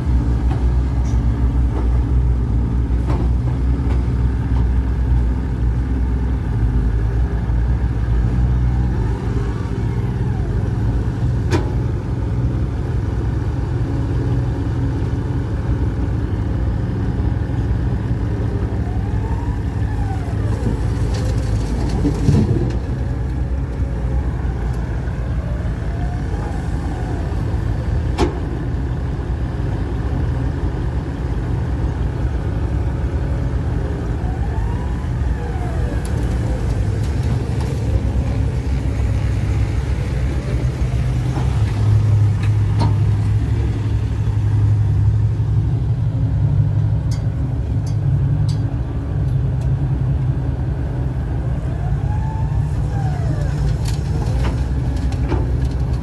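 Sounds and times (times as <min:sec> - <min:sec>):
diesel engines running: 0:00.0 - 0:56.0
truck engine: 0:00.0 - 0:56.0.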